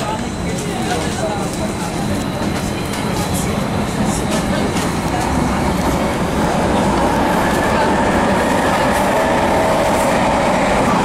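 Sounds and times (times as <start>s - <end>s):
subway train wheels rumbling on rails: 0.0s - 11.0s.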